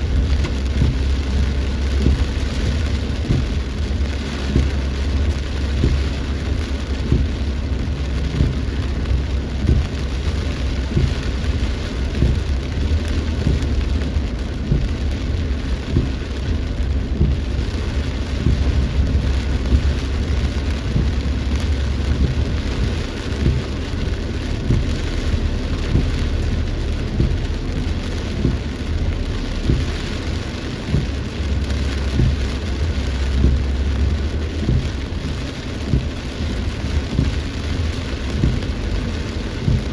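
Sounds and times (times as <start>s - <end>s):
continuous low rumble: 0.0s - 39.9s
heavy rain falling: 0.0s - 39.9s.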